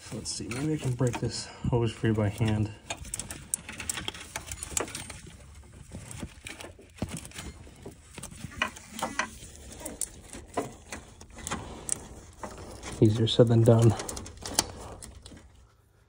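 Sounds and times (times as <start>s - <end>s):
rubber hose rubbing and creaking: 0.0s - 16.0s.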